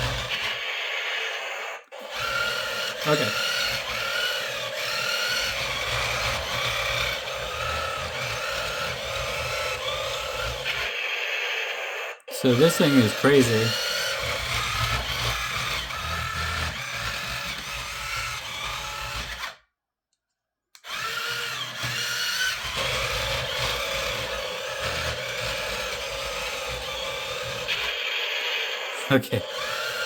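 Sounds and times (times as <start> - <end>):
toy tank motors whirring: 0.0 - 19.7, 20.7 - 30.0.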